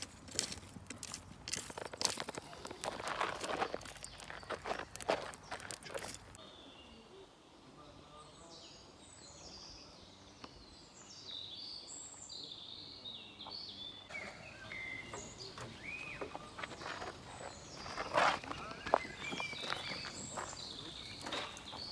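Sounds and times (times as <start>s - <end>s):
songbirds chirping and trilling: 0.0s - 21.9s.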